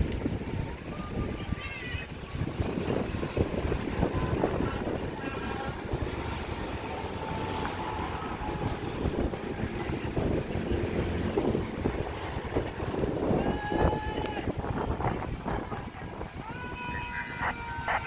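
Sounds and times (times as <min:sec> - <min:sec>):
vehicle engine rumble: 0:00.0 - 0:18.0
wind buffeting microphone: 0:00.0 - 0:18.0.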